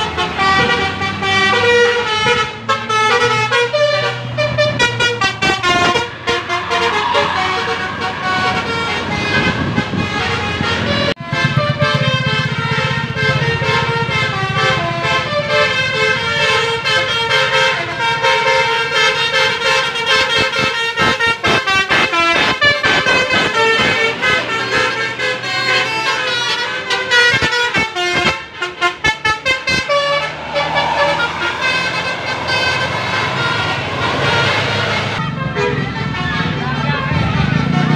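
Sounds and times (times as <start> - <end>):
bus engine running: 0.0 - 37.9
bus horn melody: 0.0 - 37.9.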